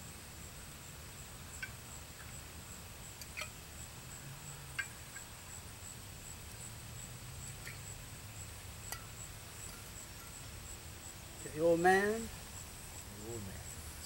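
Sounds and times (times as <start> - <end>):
insects chirring: 0.1 - 14.0.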